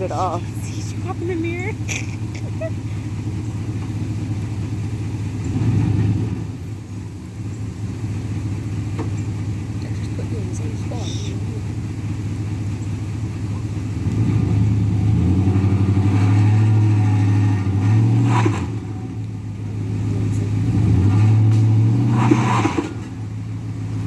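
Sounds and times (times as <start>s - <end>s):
truck engine pulling under load: 0.0s - 24.0s.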